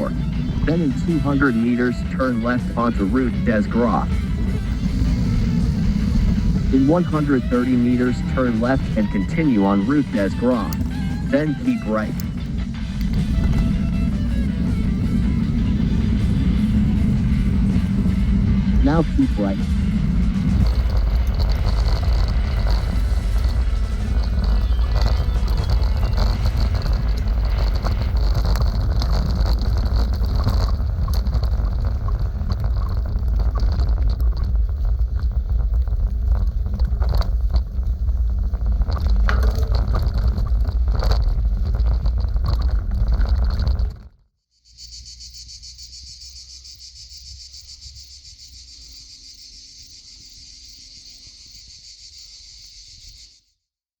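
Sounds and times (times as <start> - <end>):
bike clicks and rattles: 0.0 - 44.2
wind buffeting microphone: 0.0 - 44.2
insects chirring: 0.0 - 53.5.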